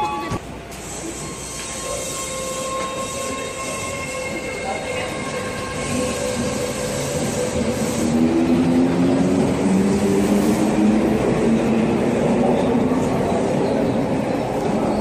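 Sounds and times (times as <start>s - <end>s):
train wheels rumbling on rail: 0.3s - 15.0s.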